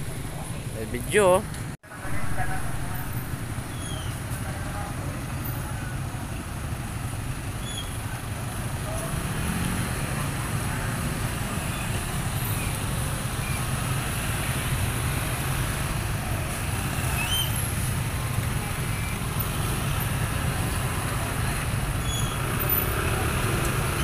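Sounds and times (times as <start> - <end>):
motorcycle and scooter engines: 0.0 - 24.0.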